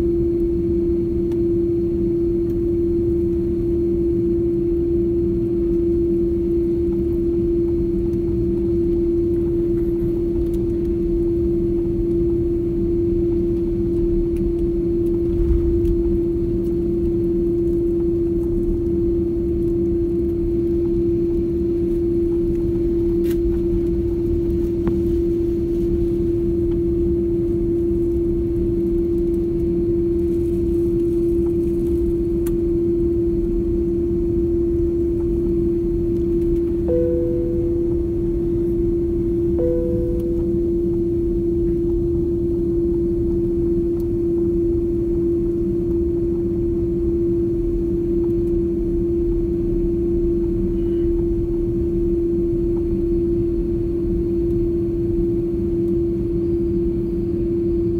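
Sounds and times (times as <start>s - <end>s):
constant even hum: 0.0s - 57.9s
engine and airflow rumble: 0.0s - 57.9s.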